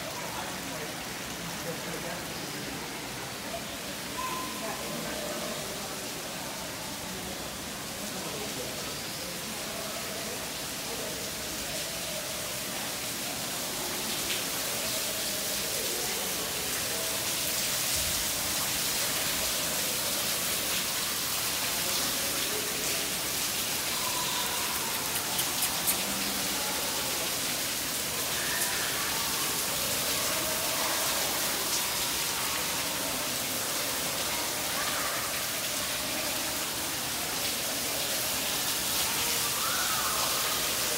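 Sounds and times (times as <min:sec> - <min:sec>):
faint murmur of voices: 0:00.0 - 0:40.9.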